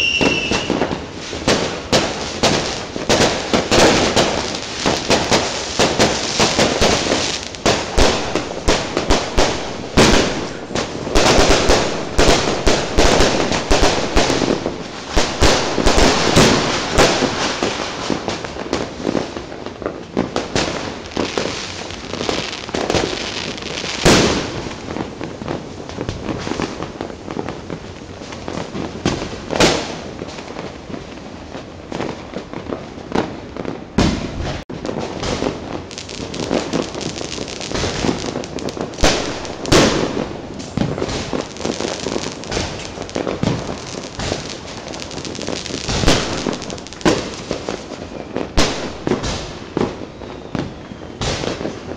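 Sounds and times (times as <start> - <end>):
firecrackers crackling: 0.0 - 51.9
loud firework bangs: 0.0 - 51.9.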